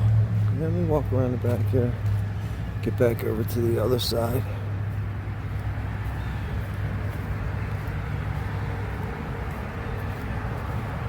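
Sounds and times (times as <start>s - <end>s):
engine idling hum: 0.0s - 11.0s
outdoor background noise: 0.0s - 11.0s.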